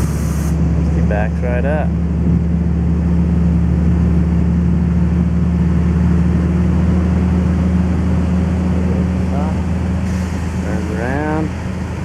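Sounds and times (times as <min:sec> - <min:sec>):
truck engine running low drone: 0:00.0 - 0:12.0.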